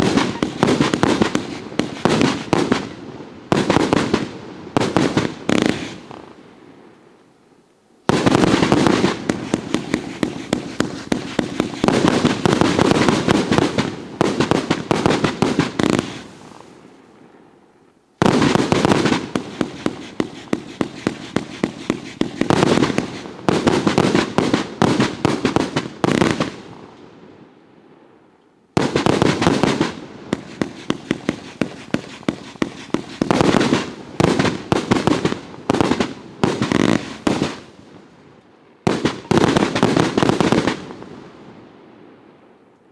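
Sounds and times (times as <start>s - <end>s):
fireworks firing rapid volleys: 0.0s - 6.4s, 8.1s - 16.9s, 18.2s - 26.6s, 28.8s - 37.7s, 38.9s - 41.0s.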